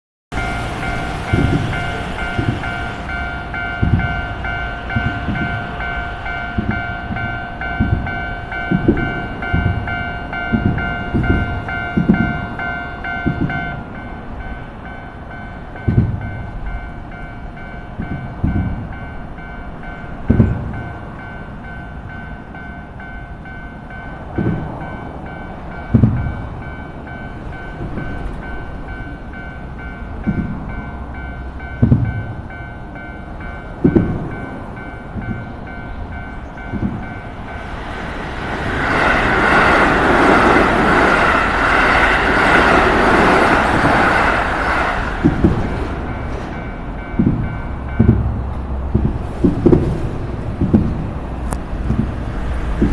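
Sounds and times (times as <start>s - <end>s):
level crossing warning bell: 0.3s - 52.9s.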